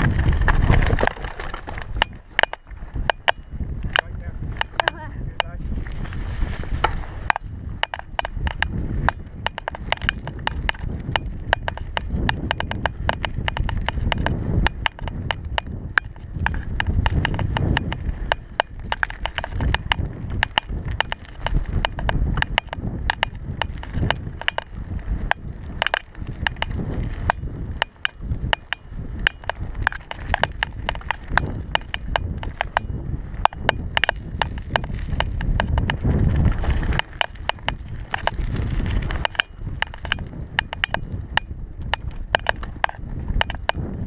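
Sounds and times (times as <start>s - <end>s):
tyres rumbling on dirt: 0.0s - 43.9s
bike rattling over bumps: 0.0s - 44.0s
wind: 0.0s - 44.0s.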